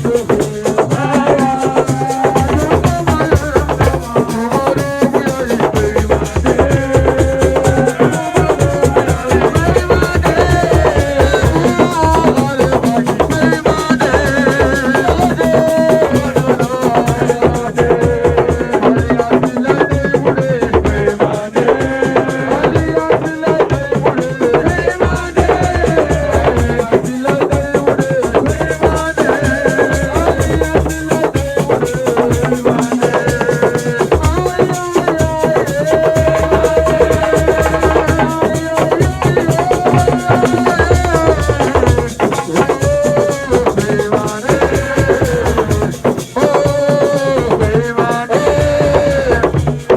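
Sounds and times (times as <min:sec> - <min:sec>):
person singing: 0:00.0 - 0:49.9
steady drumming: 0:00.0 - 0:49.9.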